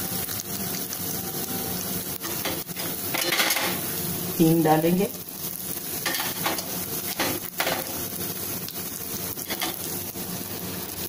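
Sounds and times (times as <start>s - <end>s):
seeds sizzling in hot oil: 0.0s - 11.0s.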